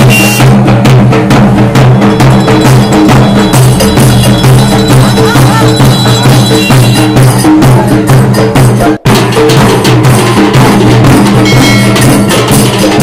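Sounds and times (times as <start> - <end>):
steel drums beaten with sticks: 0.0 - 13.0.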